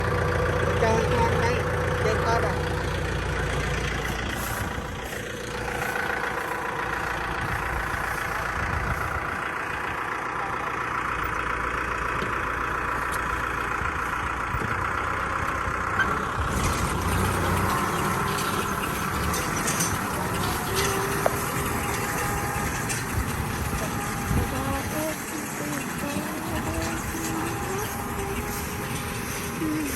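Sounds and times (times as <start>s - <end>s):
tractor diesel engine idling: 0.0s - 29.9s.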